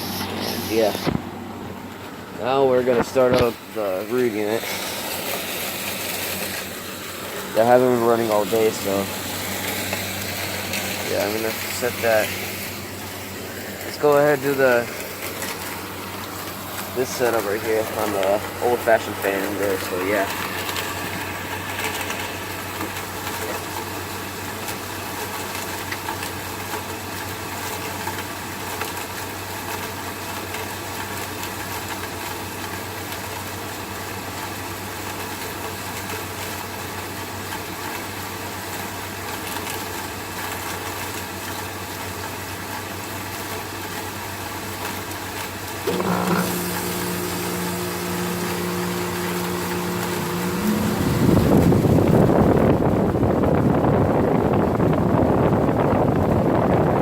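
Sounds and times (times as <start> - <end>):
air conditioner humming: 0.0 - 27.7, 35.8 - 57.0
outdoor air conditioner unit humming: 0.0 - 57.0.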